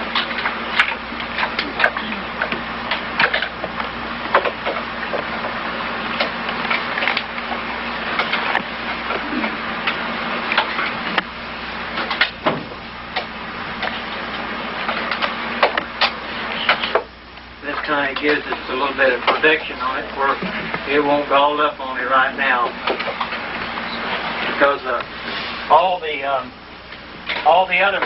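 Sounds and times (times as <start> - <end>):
steady hiss and hum: 0.0 - 28.0.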